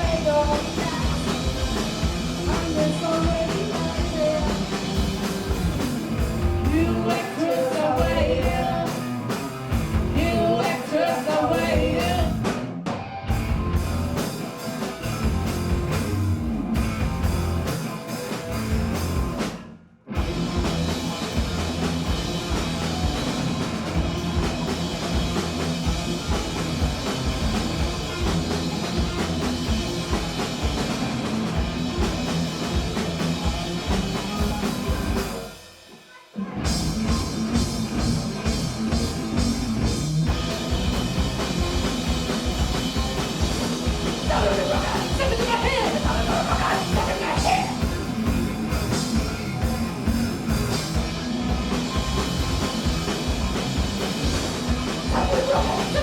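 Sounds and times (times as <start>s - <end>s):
punk rock band playing: 0.0s - 56.0s.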